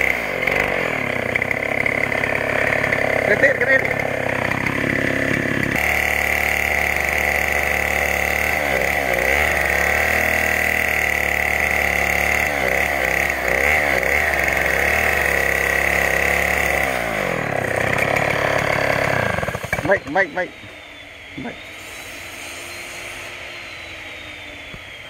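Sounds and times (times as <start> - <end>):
chainsaw engine running: 0.0 - 25.0.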